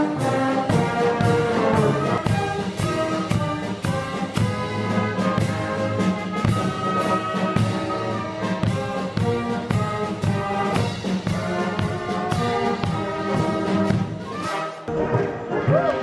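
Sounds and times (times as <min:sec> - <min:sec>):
brass band playing: 0:00.0 - 0:16.0
bass drum beat: 0:00.7 - 0:14.4.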